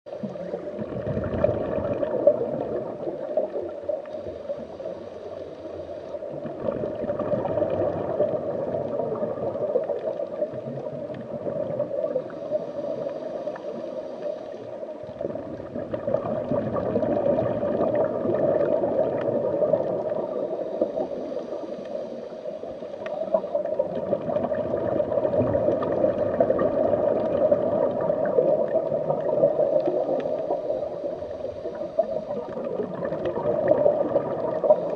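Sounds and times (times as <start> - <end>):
underwater rushing and gurgling: 0.1 - 34.9.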